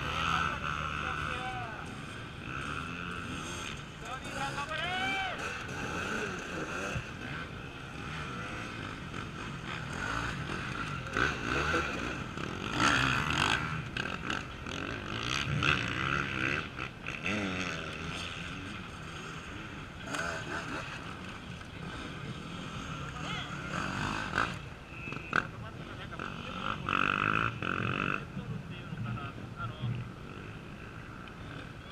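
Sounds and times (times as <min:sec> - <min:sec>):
hum of motorcycles running: 0:00.0 - 0:31.9
motorcycle engines revving: 0:00.0 - 0:31.9.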